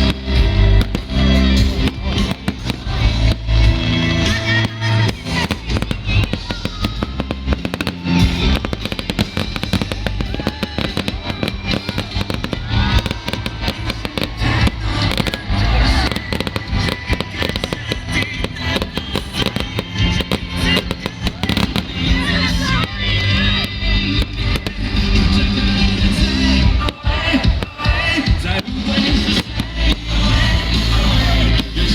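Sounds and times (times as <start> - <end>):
fireworks bangs and crackles: 0.0 - 31.9
music playing: 0.0 - 31.9.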